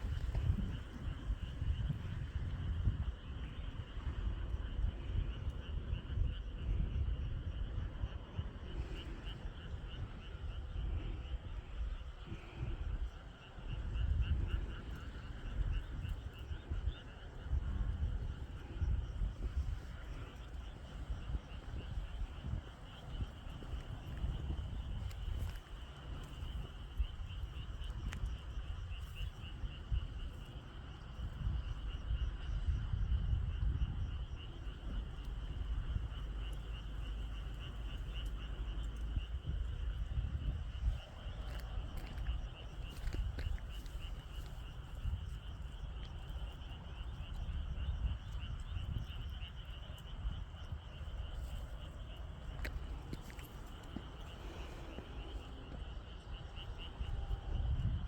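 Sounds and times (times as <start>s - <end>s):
insects chirping: 0.0s - 58.0s
low rumble on microphone: 0.0s - 58.0s.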